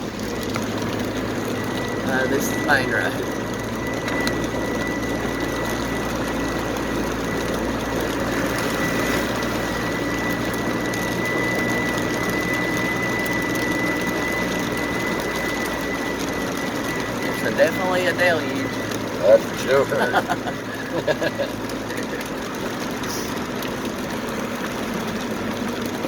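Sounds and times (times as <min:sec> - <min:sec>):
heavy rain on a car: 0:00.0 - 0:26.0
tyre and engine noise: 0:00.0 - 0:26.0
thin high whine: 0:01.4 - 0:22.3.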